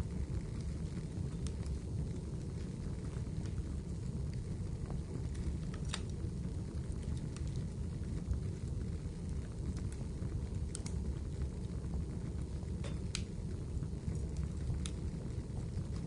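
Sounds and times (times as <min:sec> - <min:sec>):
fire pops: 0:00.0 - 0:16.0
wood fire crackling: 0:00.0 - 0:16.0.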